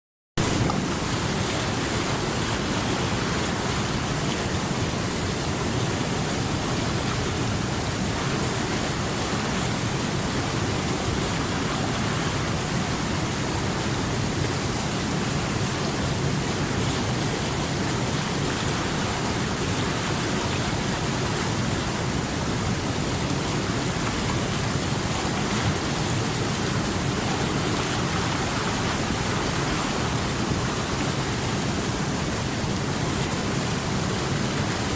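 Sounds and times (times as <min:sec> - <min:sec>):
stream flowing over rocks: 0:00.4 - 0:34.9.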